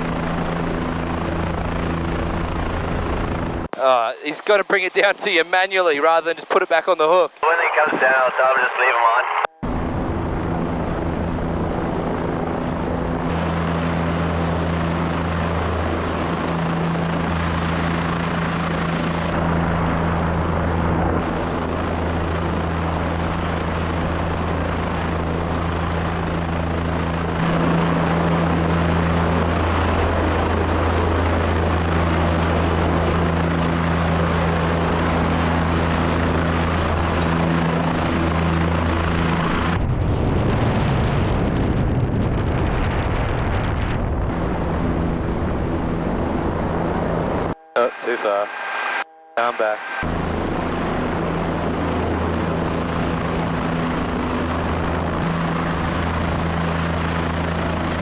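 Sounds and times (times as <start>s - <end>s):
helicopter flying: 0.0s - 58.0s.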